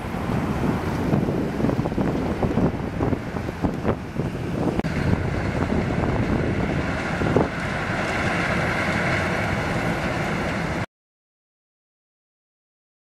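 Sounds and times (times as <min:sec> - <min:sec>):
low rumble of ship: 0:00.0 - 0:10.9
wind buffeting microphone: 0:00.0 - 0:10.9.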